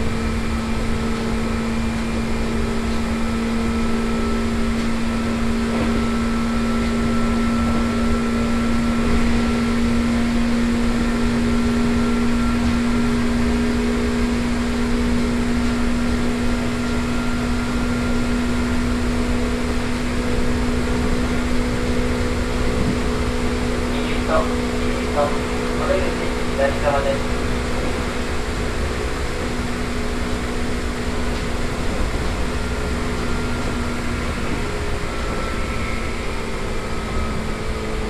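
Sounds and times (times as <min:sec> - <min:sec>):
air conditioning running: 0:00.0 - 0:38.0
train running noise: 0:00.0 - 0:38.0.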